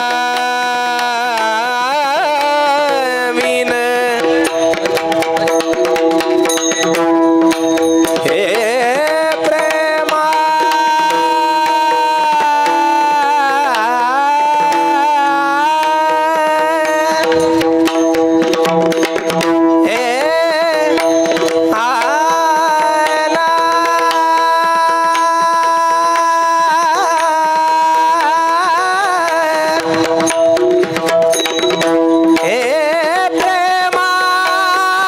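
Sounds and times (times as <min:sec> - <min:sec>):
person singing devotional song: 0:00.0 - 0:35.0.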